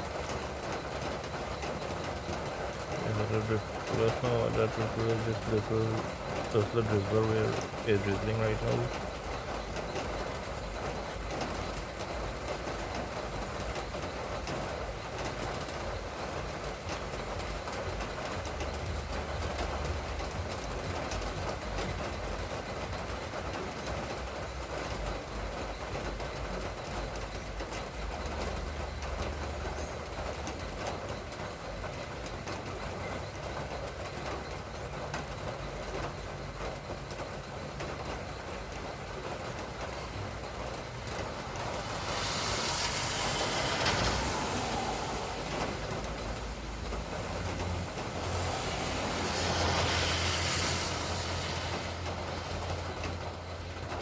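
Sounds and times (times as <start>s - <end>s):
drizzling rain hiss: 0.0s - 54.0s.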